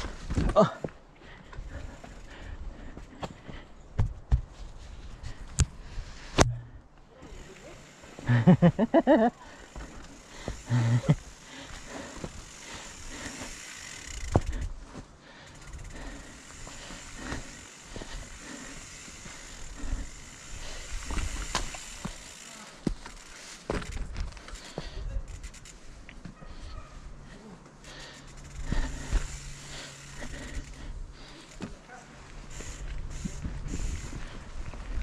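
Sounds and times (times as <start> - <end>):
bike knocking and rattling: 0.0 - 5.8, 6.4 - 26.7, 27.7 - 35.0
bike tyres on dirt trail: 0.0 - 35.0.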